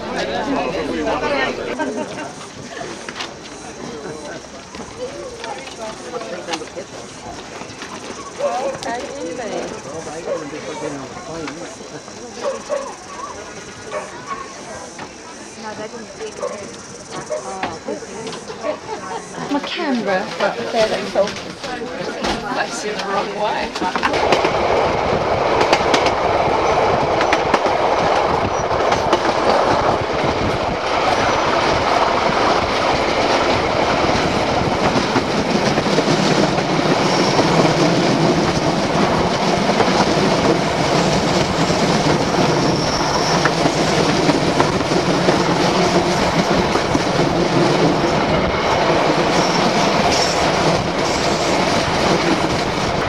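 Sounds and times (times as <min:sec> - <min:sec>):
train rumble: 0:00.0 - 0:53.0
wheels clacking over rail joints: 0:00.0 - 0:53.0.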